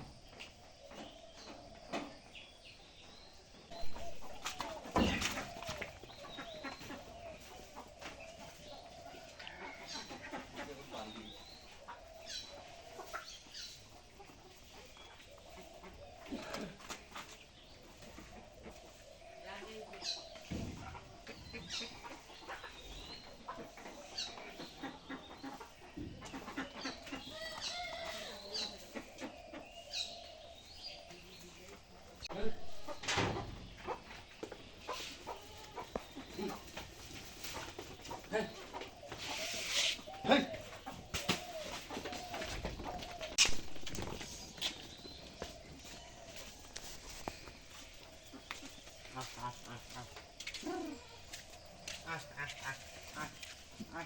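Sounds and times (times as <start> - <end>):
hens clucking: 0.0 - 54.0
small birds chirping: 0.0 - 54.0.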